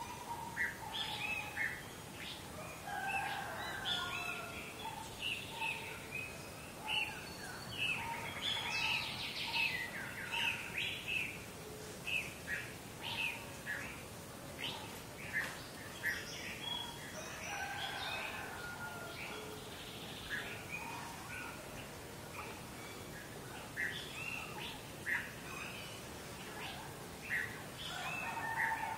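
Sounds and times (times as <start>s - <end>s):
birds chirping and calling: 0.0s - 28.9s
low background hiss: 0.0s - 28.9s.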